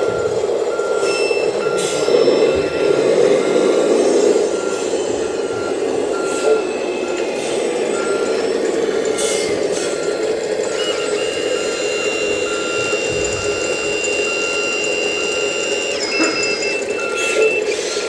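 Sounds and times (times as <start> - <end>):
reversing beeper: 0.0 - 18.0
steady engine sound: 0.0 - 18.0.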